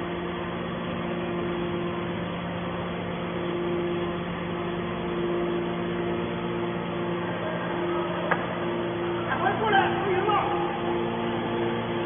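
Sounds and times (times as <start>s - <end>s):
hydraulic pump humming: 0.0s - 12.0s.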